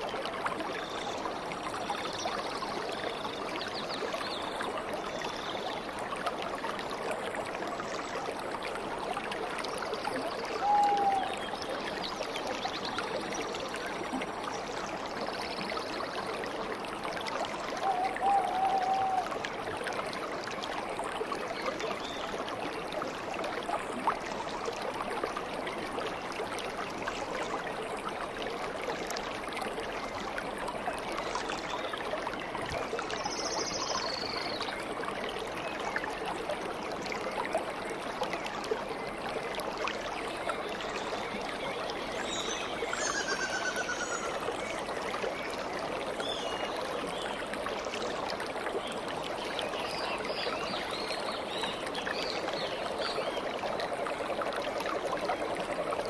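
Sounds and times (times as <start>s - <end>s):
stream flowing and trickling: 0.0s - 56.0s.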